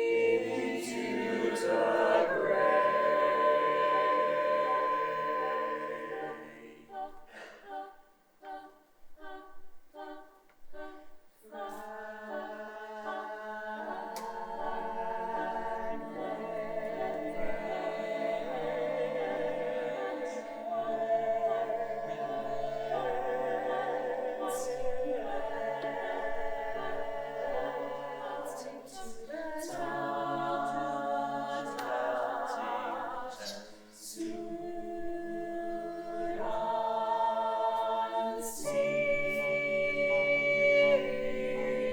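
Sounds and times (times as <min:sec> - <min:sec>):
choir singing a cappella: 0:00.0 - 0:41.9.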